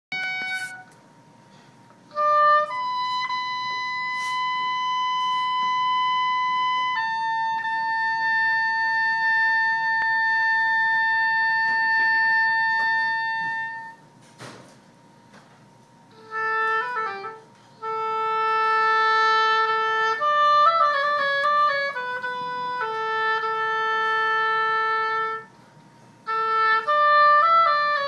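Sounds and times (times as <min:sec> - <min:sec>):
reed woodwind sustained notes: 0:00.1 - 0:01.0, 0:02.1 - 0:14.1, 0:16.1 - 0:28.0.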